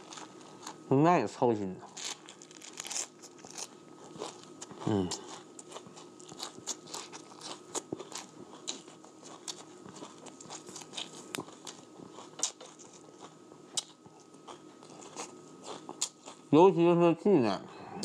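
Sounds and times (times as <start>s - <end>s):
person chewing crunchy food: 0.0s - 0.9s, 1.9s - 16.5s.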